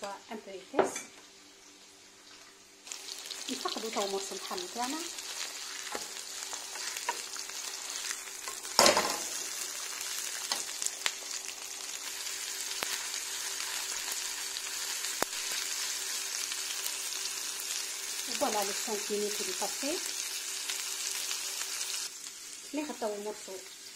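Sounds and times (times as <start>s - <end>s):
steak sizzling in a pan: 1.3s - 23.9s.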